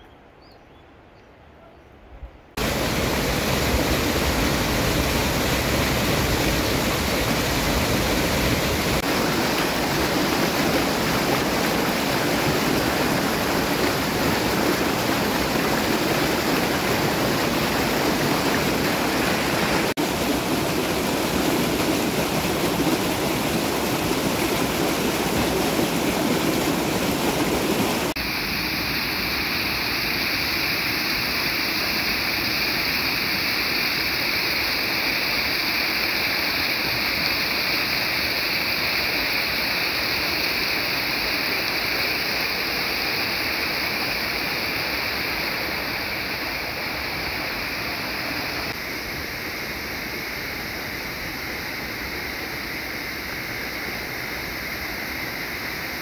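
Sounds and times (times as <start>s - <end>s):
water rushing over rocks: 2.6s - 49.0s.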